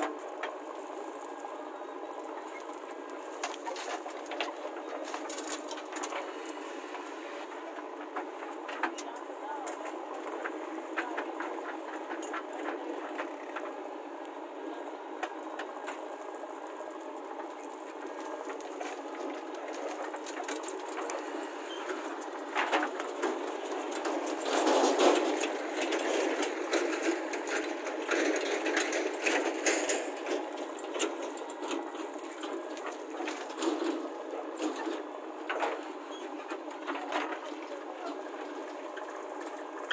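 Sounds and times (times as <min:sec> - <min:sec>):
diesel backhoe digging: 0:00.0 - 0:39.9
tractor engine idling: 0:00.0 - 0:39.9.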